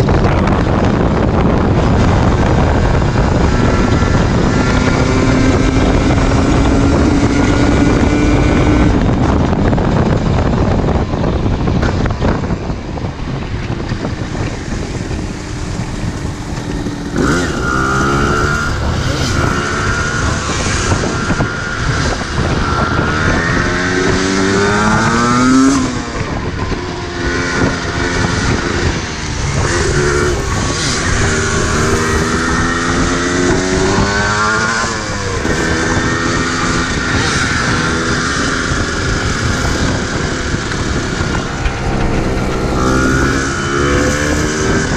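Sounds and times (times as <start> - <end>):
motorcycle engine revving: 0.0 - 44.9
wind buffeting microphone: 0.0 - 44.9.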